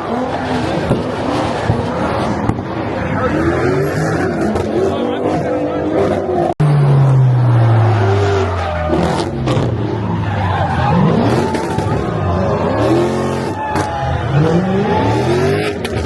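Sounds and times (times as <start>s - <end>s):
spinning tires squealing: 0.0s - 6.5s, 7.5s - 16.0s
car engine revving: 0.0s - 16.0s.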